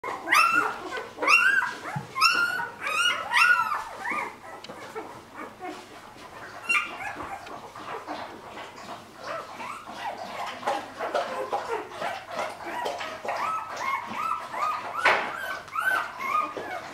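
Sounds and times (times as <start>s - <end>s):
puppies squealing and whimpering: 0.0s - 16.9s.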